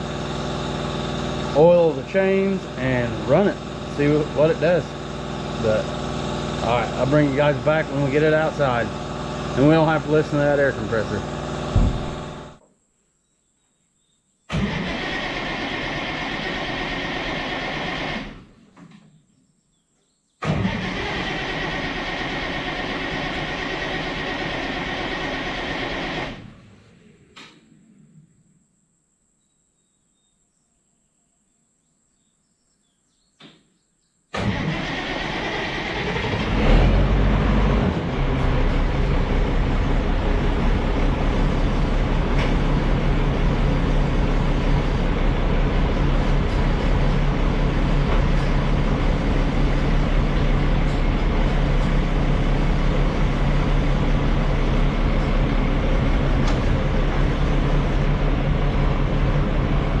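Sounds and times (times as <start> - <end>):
tractor engine starting and running: 0.0 - 12.6, 14.5 - 19.1, 20.4 - 27.8, 34.3 - 60.0.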